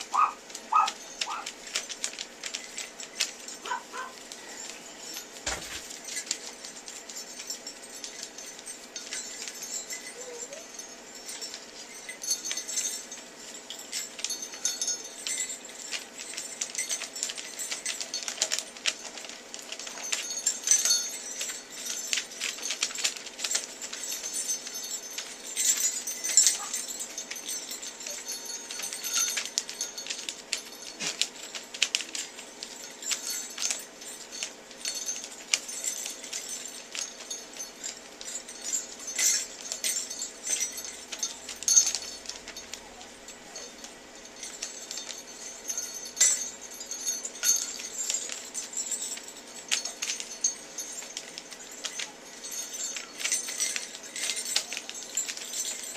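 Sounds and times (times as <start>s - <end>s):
sleigh bells jingling: 0.0s - 55.9s.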